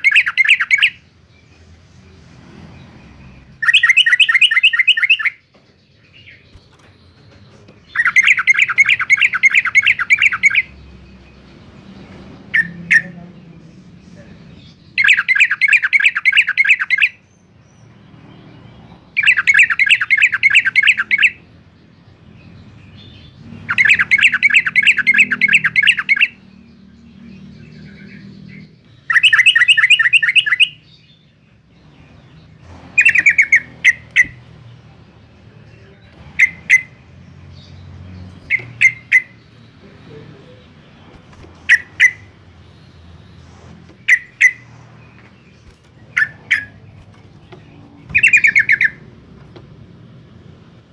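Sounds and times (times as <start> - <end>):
sharp bird calls: 0.0 - 1.7, 3.1 - 50.9.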